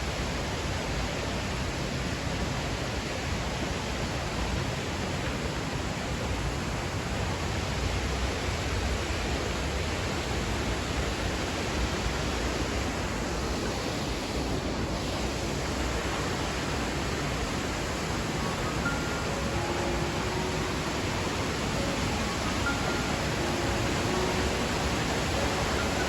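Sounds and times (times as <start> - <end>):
fast-flowing water rushing: 0.0 - 26.0.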